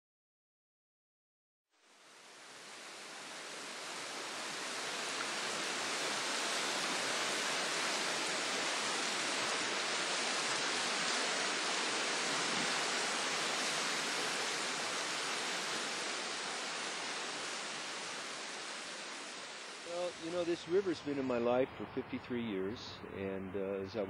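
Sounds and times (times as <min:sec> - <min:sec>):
river water rushing: 0:01.8 - 0:23.2.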